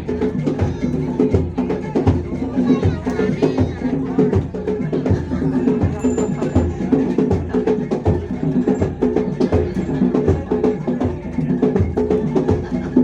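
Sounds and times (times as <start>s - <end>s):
bass drum beat: 0.0s - 13.0s
sharp drum and wood-block strokes: 0.0s - 13.0s.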